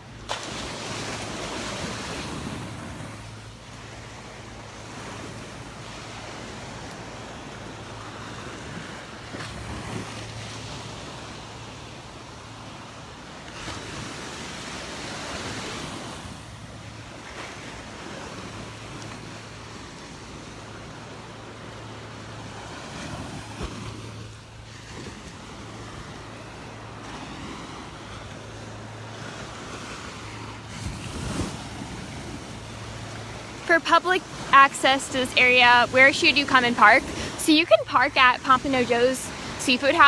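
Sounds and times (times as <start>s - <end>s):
surf washing onto beach: 0.0s - 40.0s.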